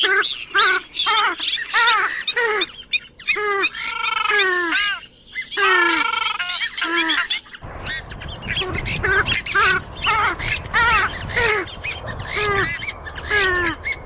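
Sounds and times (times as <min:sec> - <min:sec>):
swamphen calling: 0:00.0 - 0:14.0.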